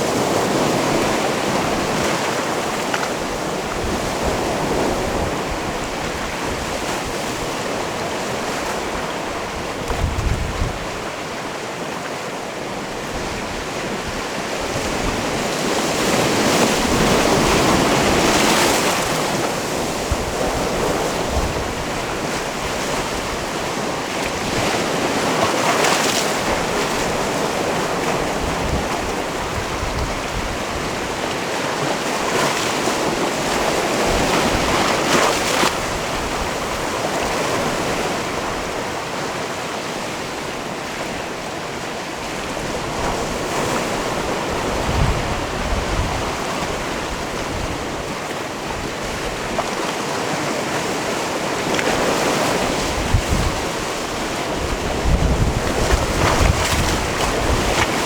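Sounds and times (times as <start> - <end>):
wind buffeting microphone: 0.0 - 11.2, 12.8 - 25.5, 26.3 - 39.3, 40.6 - 49.8, 51.9 - 58.0
waves washing onto rocky shore: 0.0 - 58.0.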